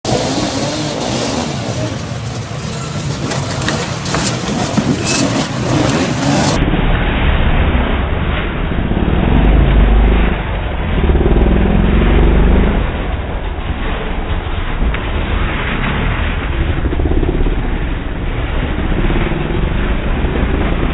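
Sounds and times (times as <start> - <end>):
motorcycle engines revving: 0.0 - 20.9
heavy low rumble: 1.4 - 20.9.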